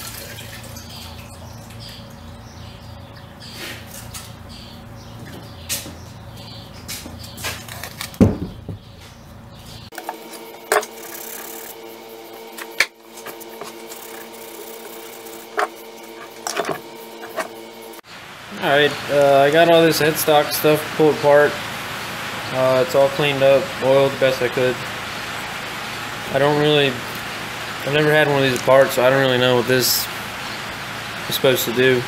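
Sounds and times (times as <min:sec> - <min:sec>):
low hum: 0:00.0 - 0:28.8.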